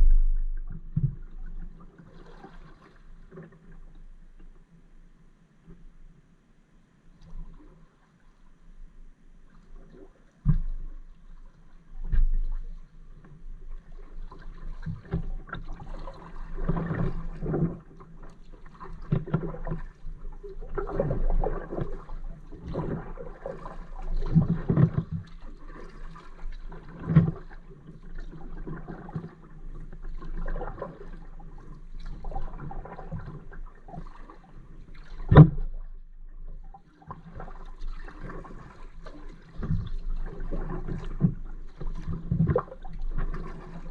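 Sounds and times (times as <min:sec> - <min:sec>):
paddle strokes splashing water: 0:00.0 - 0:04.0, 0:09.6 - 0:43.9.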